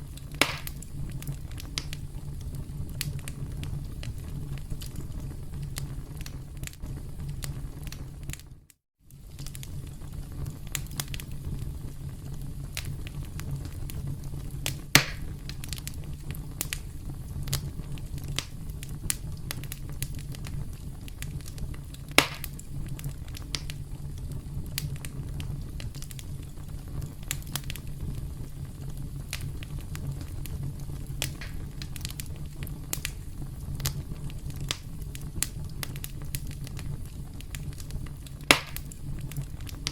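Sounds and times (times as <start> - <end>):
steady low rumble: 0.0 - 8.3, 9.8 - 39.9
burning wood popping: 0.0 - 39.9
campfire crackling: 0.0 - 39.9.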